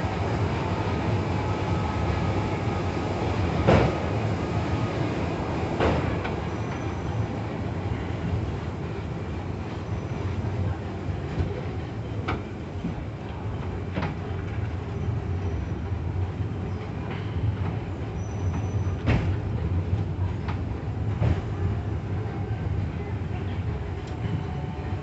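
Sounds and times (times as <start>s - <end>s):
railway car rumbling on rails: 0.0s - 25.0s.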